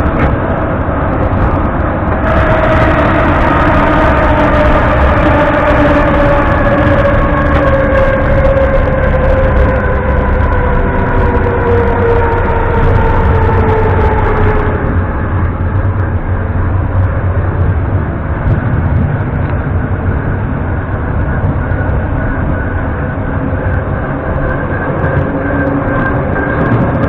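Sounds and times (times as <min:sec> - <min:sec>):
high-pitched whine: 0:00.0 - 0:27.0
train wheels rumbling on rail: 0:00.0 - 0:27.0.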